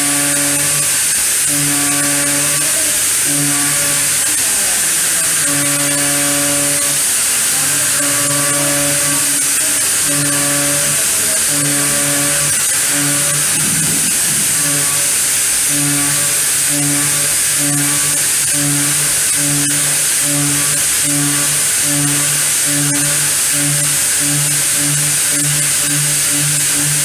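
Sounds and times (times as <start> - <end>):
milling machine hiss: 0.0 - 27.0
pitched humming of cutting: 0.0 - 27.0.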